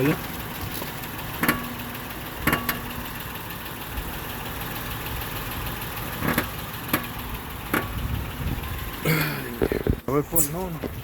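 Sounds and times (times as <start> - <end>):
car engine idling: 0.0 - 11.0
steering clunks: 0.0 - 11.0.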